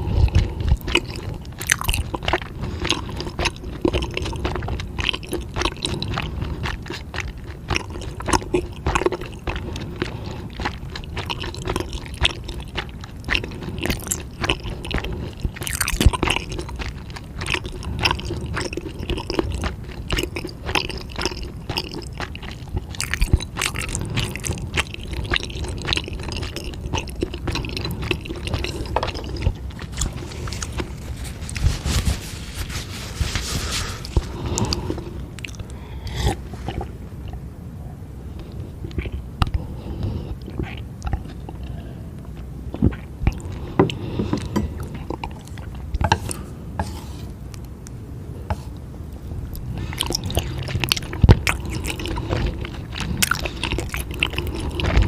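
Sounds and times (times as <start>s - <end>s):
person chewing food: 0.0s - 37.4s, 38.3s - 55.0s.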